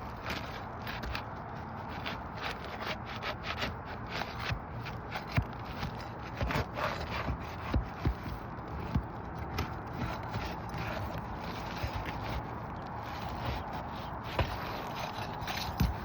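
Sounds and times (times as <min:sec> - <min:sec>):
scraping and clicking on roof shingle: 0:00.0 - 0:16.0.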